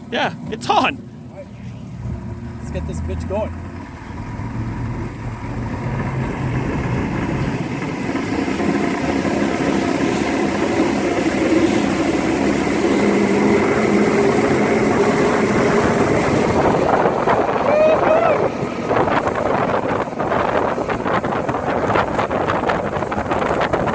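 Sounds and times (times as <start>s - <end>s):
outboard motor throttling up: 0.0s - 23.9s
rush of water and wind: 0.0s - 23.9s.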